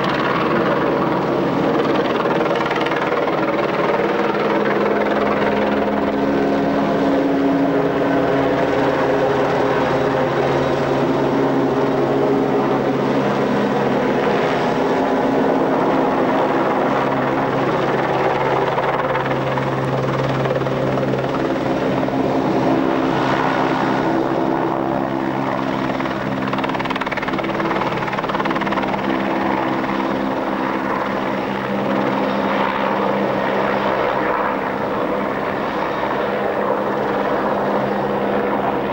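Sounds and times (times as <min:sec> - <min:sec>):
helicopter drone: 0:00.0 - 0:38.9.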